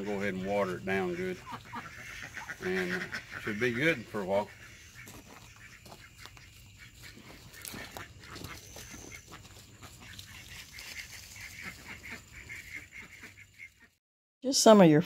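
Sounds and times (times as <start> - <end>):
farmyard fowl calling: 0.0 - 14.0.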